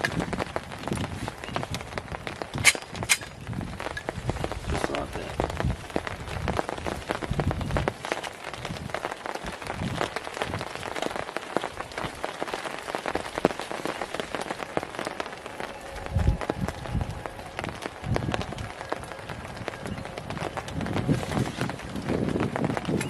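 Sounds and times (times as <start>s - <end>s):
rain patter: 0.0s - 23.0s.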